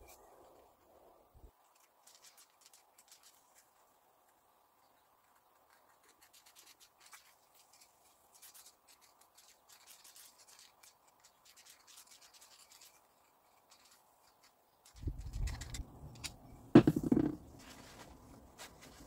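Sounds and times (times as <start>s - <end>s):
faint scratching and rubbing: 0.0s - 4.0s, 5.2s - 16.3s, 17.1s - 19.0s.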